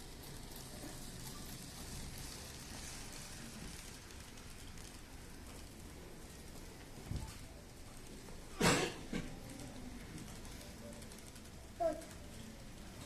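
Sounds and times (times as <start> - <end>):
model train rattling on track: 0.0 - 13.0.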